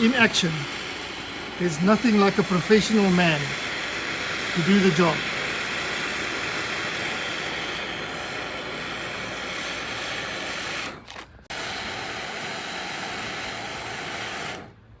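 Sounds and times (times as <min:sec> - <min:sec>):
gas water heater hissing: 0:00.0 - 0:15.0.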